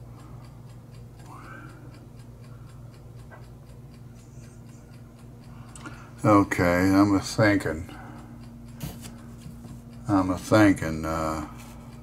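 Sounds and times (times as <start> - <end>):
faint clock ticking: 0.0 - 12.0
low steady hum: 0.0 - 12.0.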